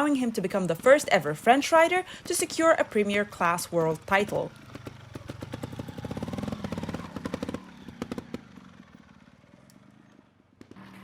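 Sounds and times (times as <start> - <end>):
motorcycle engine running hard: 0.8 - 11.0.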